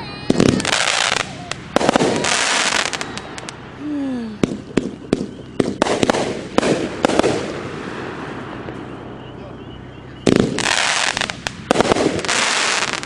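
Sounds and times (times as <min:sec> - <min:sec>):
firework bursting reports: 0:00.0 - 0:09.6, 0:10.2 - 0:13.0.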